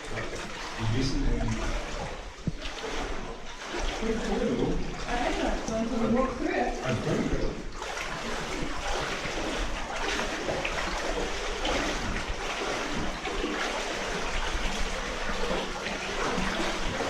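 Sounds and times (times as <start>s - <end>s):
feet wading through muddy water: 0.0s - 17.0s.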